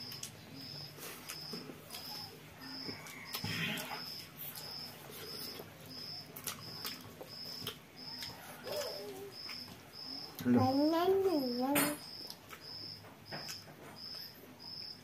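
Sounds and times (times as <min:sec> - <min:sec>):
chewing and fingers in food: 0:00.0 - 0:10.6, 0:12.1 - 0:15.0.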